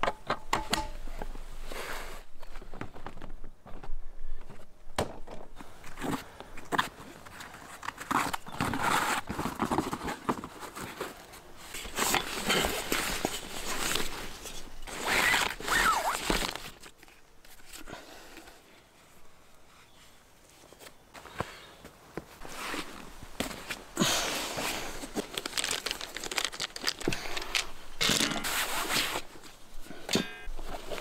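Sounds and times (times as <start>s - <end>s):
camping gear rustling and crinkling: 0.1s - 31.0s.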